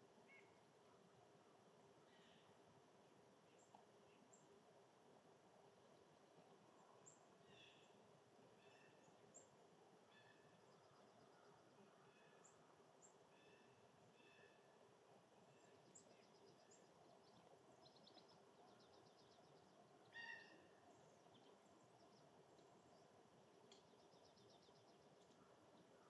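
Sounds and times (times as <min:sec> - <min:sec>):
songbird chirps and trills: 0:00.0 - 0:26.0
steady low hiss: 0:00.0 - 0:26.0.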